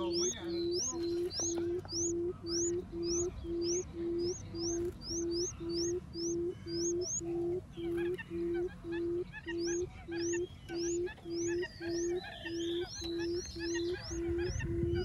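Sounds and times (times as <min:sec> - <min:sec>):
bird low hoots: 0:00.0 - 0:15.0
high rising chirp: 0:00.0 - 0:15.0.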